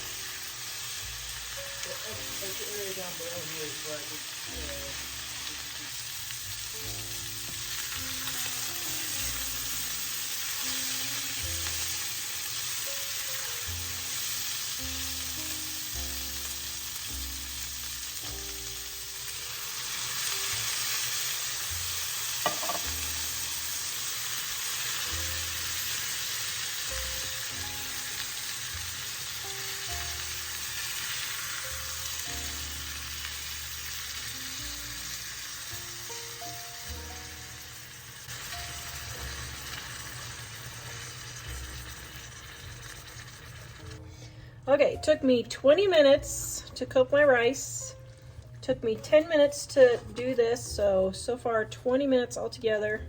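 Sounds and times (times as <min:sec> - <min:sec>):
chicken and onions sizzling: 0:00.0 - 0:51.4.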